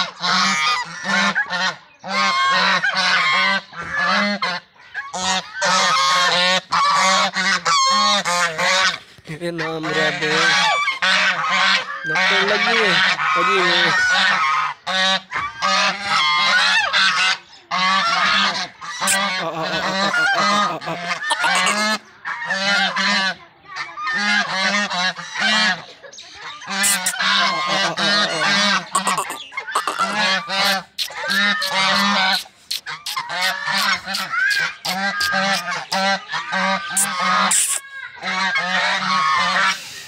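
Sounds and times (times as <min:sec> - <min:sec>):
geese honking: 0:00.0 - 0:09.0, 0:09.6 - 0:23.4, 0:26.6 - 0:40.0.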